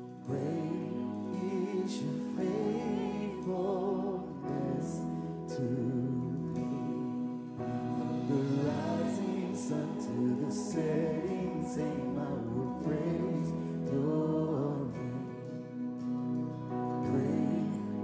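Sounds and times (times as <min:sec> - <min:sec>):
band with keyboard chords: 0:00.0 - 0:18.0
man singing worship song: 0:00.0 - 0:18.0.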